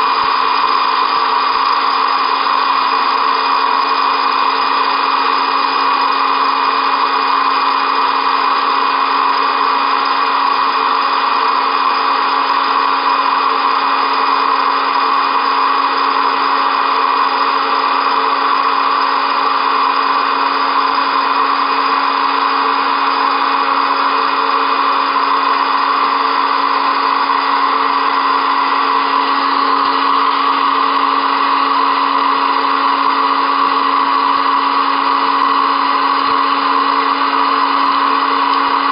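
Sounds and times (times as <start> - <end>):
popcorn maker fan whirring: 0.0 - 38.9.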